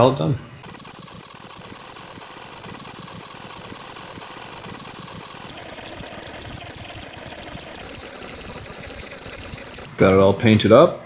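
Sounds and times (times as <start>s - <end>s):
spray paint can hissing: 0.6s - 10.0s.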